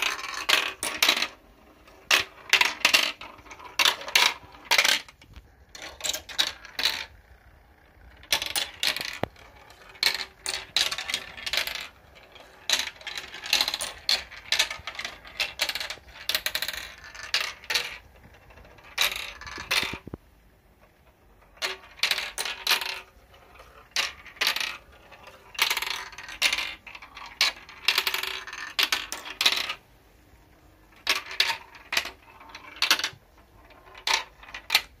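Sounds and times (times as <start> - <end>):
marbles clattering down plastic run: 0.0 - 20.2, 20.8 - 35.0.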